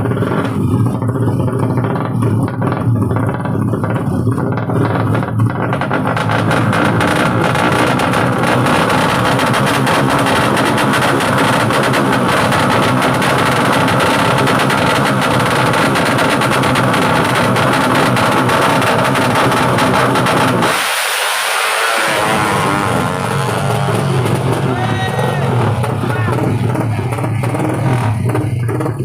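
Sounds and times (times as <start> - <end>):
motorcycle engines running loudly: 0.0 - 29.0.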